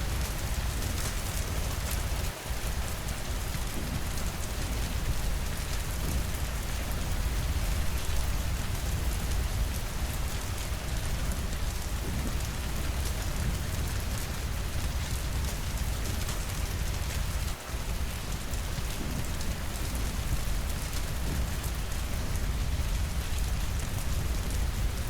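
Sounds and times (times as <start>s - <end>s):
rain pattering on windows: 0.0s - 25.0s.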